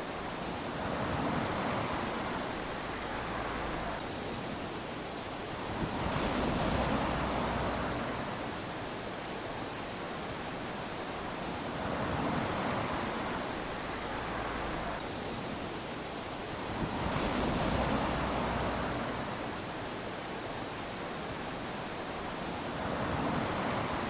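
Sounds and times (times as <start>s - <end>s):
small waves washing onto sand: 0.0s - 24.0s.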